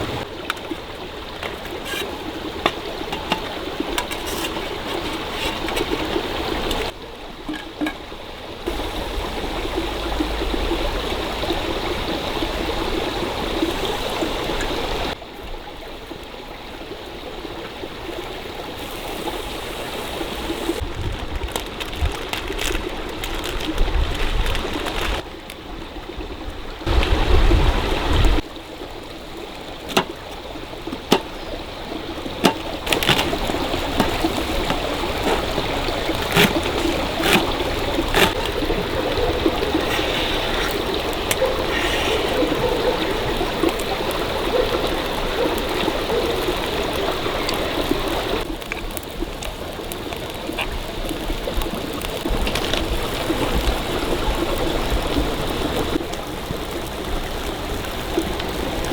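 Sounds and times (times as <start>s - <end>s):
stream water flowing: 0.0s - 58.9s.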